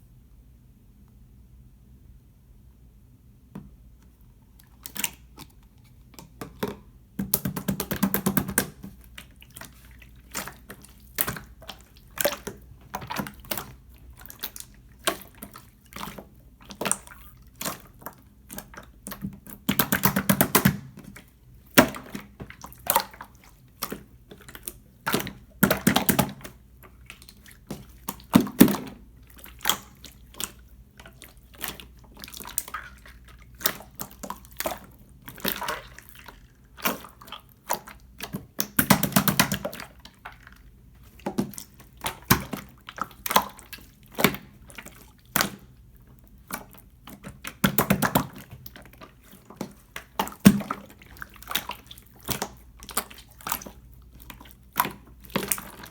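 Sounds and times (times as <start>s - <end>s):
slime squished by hand: 4.5s - 55.9s.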